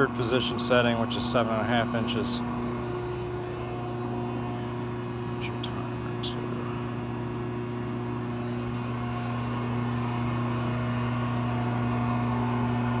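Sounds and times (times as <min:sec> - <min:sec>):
hydraulic machine motor hum: 0:00.0 - 0:13.0.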